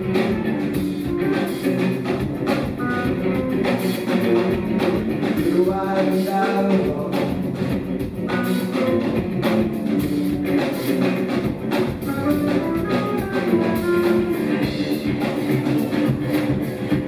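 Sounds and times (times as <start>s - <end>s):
bass guitar: 0.0s - 17.0s
drum kit beat: 0.0s - 17.0s
electric guitar: 0.0s - 17.0s.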